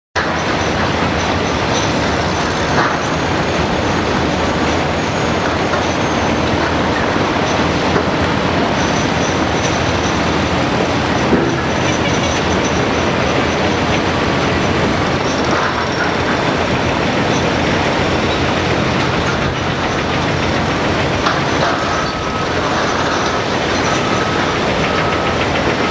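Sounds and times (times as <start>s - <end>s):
excavator diesel engine rumble: 0.2s - 25.9s.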